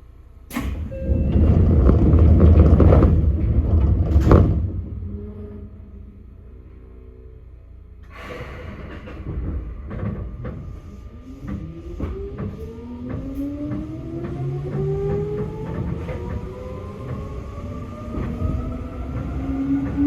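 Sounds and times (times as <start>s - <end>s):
electric train running noise: 0.5s - 20.0s.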